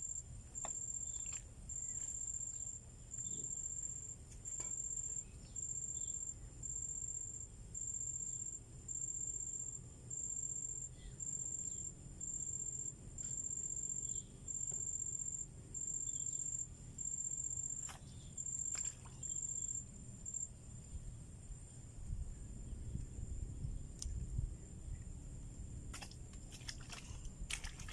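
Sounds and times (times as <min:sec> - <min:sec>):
insect buzzing chirps: 0:00.0 - 0:22.5.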